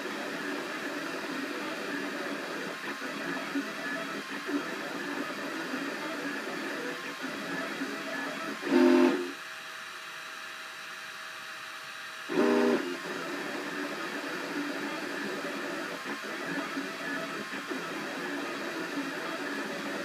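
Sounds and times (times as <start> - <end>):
printer stepper motors whining: 0.0 - 9.3, 12.3 - 20.0.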